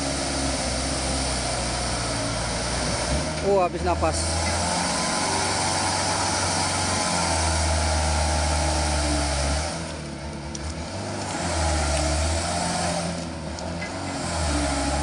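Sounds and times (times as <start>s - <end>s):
diesel truck engine labouring: 0.0s - 15.0s.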